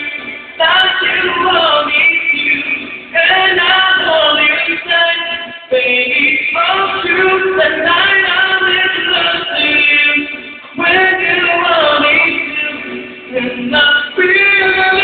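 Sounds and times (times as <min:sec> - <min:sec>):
backing music: 0:00.0 - 0:15.0
man singing into a microphone: 0:00.0 - 0:15.0.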